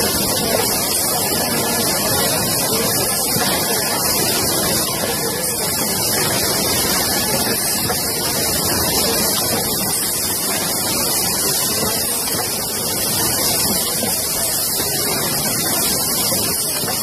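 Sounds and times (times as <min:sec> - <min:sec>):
machine hissing air: 0:00.0 - 0:17.0.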